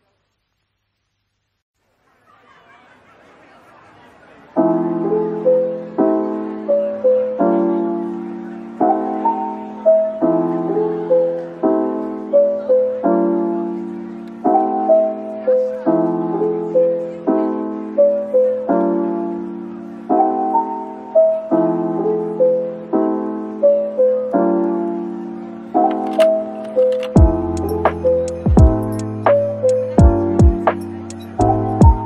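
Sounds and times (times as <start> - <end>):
soft piano music: 4.4 - 32.0.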